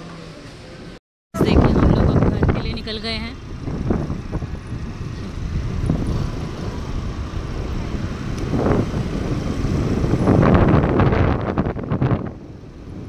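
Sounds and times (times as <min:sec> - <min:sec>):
traffic noise: 0:00.0 - 0:13.0
scooter engine: 0:01.4 - 0:13.0
wind rumble on microphone: 0:01.4 - 0:13.0.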